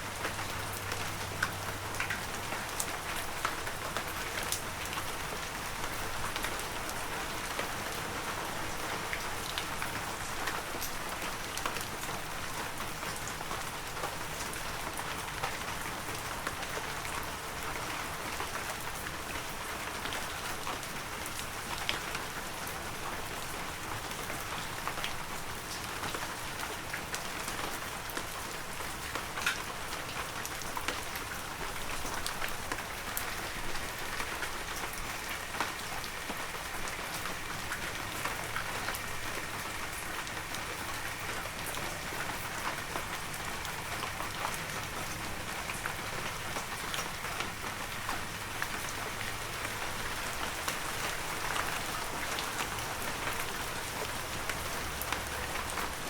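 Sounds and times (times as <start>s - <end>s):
heavy rain: 0.0s - 56.0s
raindrops pattering: 0.0s - 56.0s.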